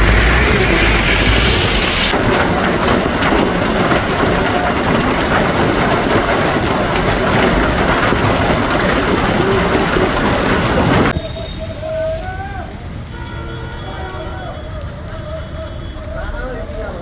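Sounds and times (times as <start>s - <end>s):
hail pelting down: 0.0s - 17.0s.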